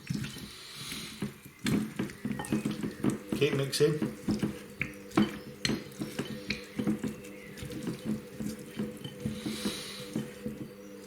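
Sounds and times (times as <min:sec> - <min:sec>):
wet squelching of raw chicken: 0:00.0 - 0:11.0.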